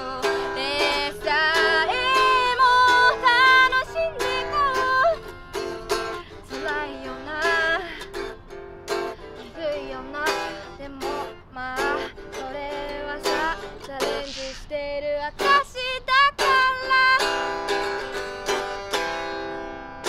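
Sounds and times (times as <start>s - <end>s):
woman singing: 0.0s - 5.3s, 5.9s - 18.2s
acoustic guitar strumming: 0.0s - 20.0s.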